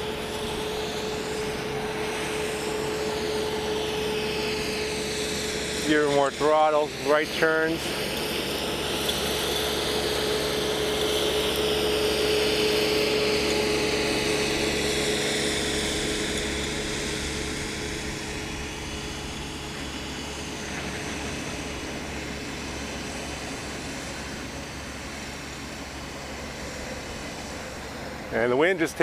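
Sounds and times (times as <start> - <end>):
small propeller motors whining: 0.0 - 29.0.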